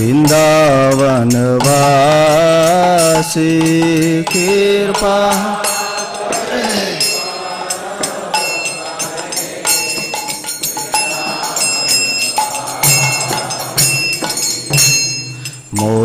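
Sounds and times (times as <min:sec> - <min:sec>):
person singing: 0:00.0 - 0:10.0, 0:10.8 - 0:16.0
hand cymbals struck rhythmically: 0:00.0 - 0:16.0.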